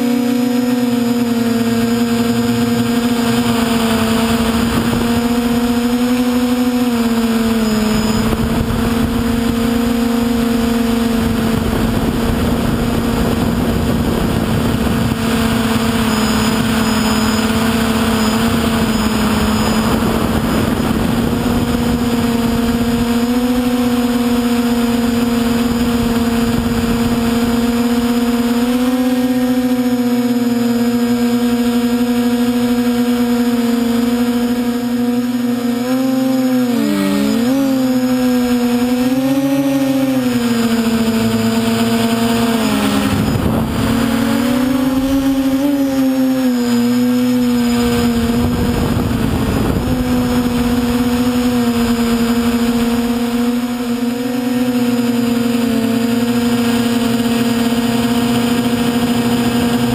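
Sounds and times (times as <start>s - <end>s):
wind rumble on microphone: 0.0s - 30.4s, 36.4s - 59.9s
drone motor buzzing whine: 0.0s - 59.9s.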